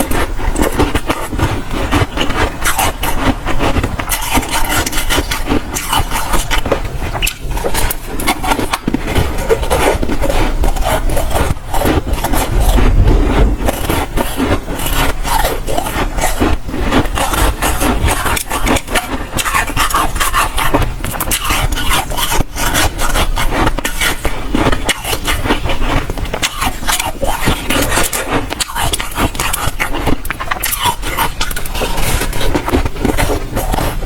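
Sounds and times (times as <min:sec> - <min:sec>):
chewing crunchy frost ice: 0:00.0 - 0:34.0.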